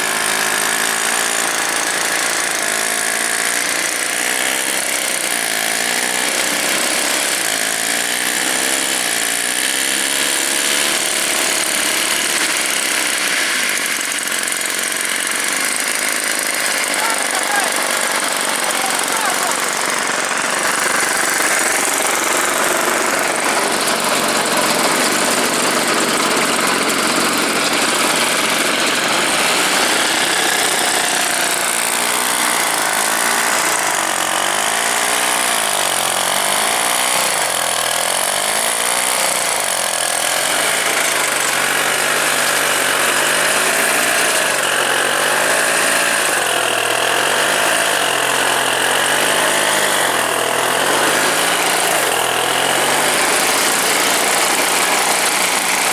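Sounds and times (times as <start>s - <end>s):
two-stroke engine revving: 0.0s - 55.9s.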